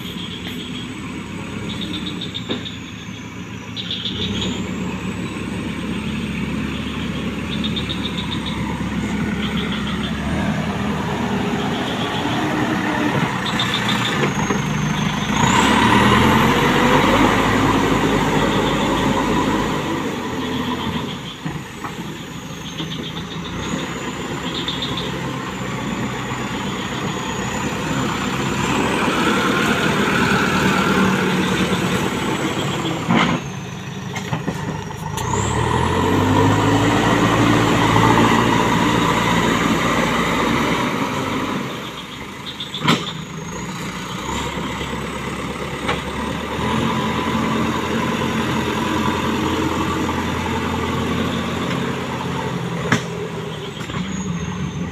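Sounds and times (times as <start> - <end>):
diesel engine working under load: 0.0 - 54.9.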